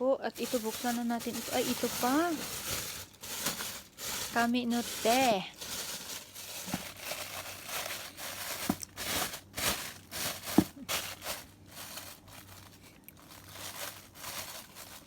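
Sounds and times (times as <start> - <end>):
packaging crinkling and rustling: 0.4 - 15.0.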